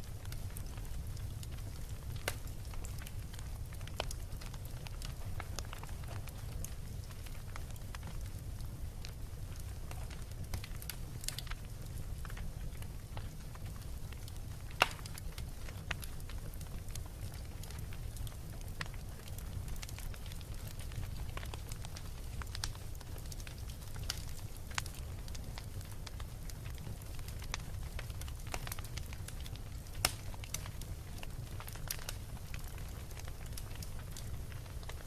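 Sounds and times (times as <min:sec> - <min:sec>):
bonfire crackling: 0:00.0 - 0:35.0
burning wood popping: 0:00.0 - 0:35.0.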